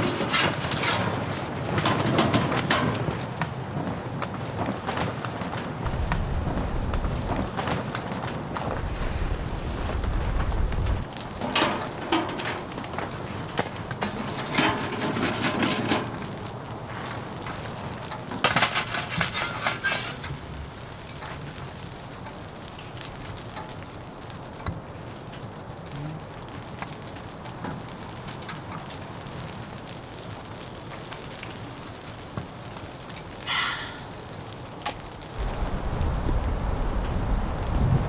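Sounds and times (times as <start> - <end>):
crackling rustles: 0.0 - 38.0
rain patter on tent fabric: 0.0 - 38.0.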